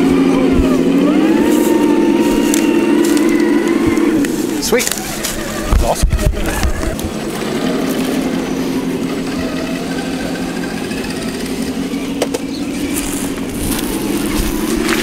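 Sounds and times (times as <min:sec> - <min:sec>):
rc truck mechanical hum: 0:00.0 - 0:15.0.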